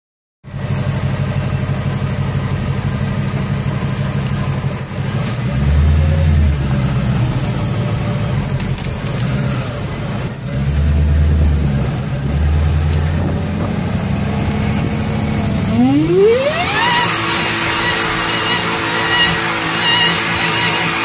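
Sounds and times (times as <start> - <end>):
car engine idling: 0.5 - 20.4.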